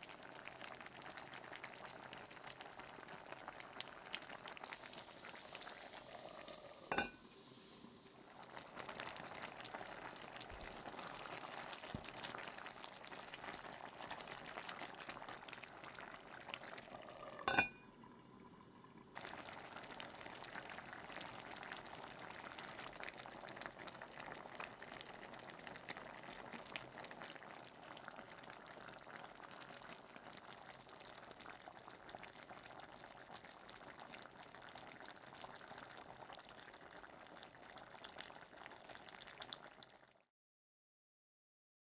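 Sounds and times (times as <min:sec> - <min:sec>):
thick sauce bubbling: 0:00.0 - 0:40.2.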